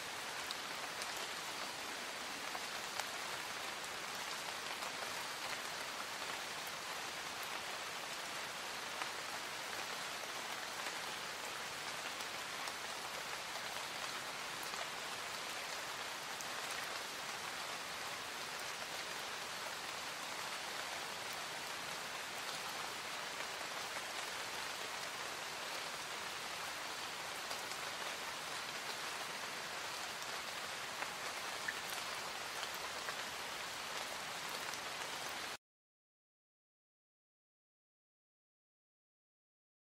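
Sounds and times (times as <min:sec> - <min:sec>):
light rain pattering: 0:00.0 - 0:35.6.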